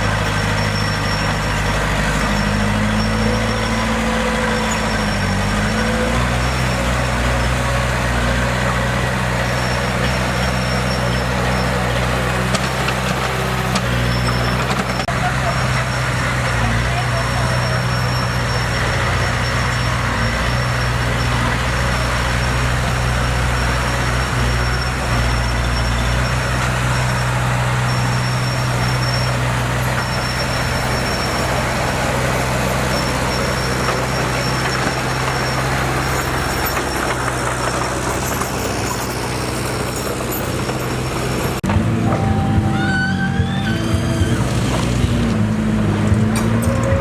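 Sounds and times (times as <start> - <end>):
heavy machinery diesel engine: 0.0 - 47.0.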